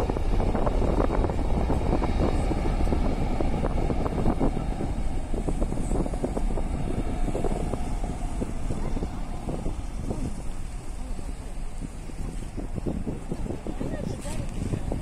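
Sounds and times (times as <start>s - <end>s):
distant jet engines rumbling: 0.0s - 15.0s
wind buffeting microphone: 0.0s - 15.0s.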